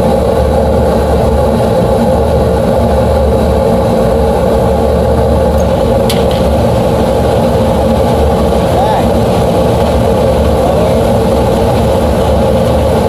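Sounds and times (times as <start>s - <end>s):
gas furnace roaring: 0.0s - 13.0s.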